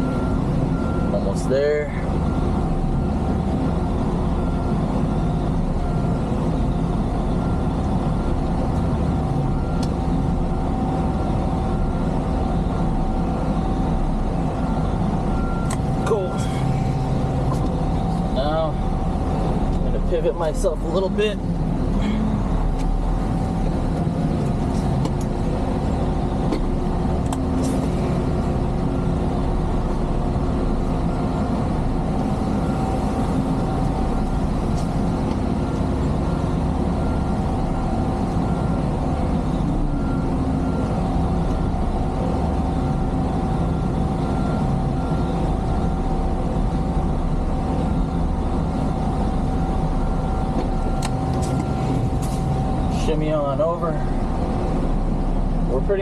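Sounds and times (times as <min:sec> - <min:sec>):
constant steady tone: 0:00.0 - 0:56.0
diesel truck engine running: 0:00.0 - 0:56.0.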